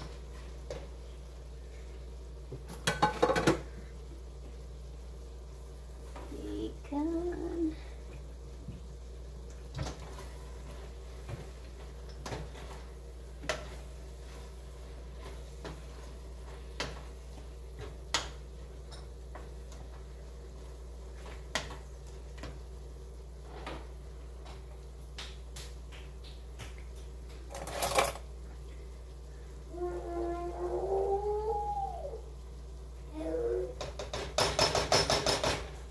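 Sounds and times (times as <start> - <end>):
steady low hum: 0.0 - 33.8.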